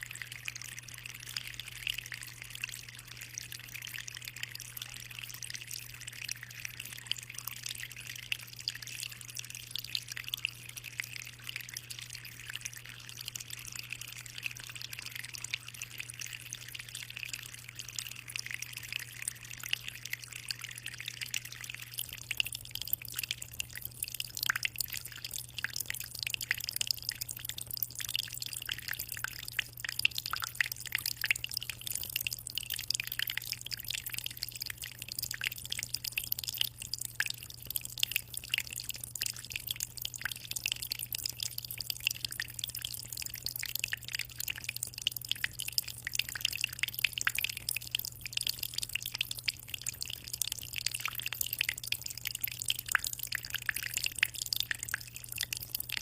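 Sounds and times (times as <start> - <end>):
aquarium water trickling: 0.0 - 56.0.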